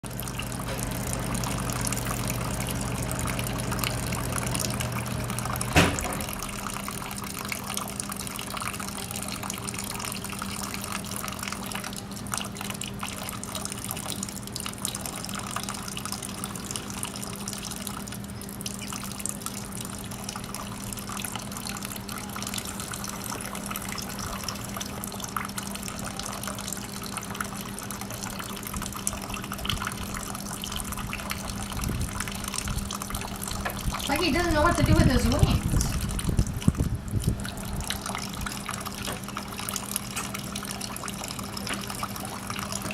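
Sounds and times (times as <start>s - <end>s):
low steady hum: 0.0s - 42.9s
water trickling and splashing: 0.0s - 42.9s.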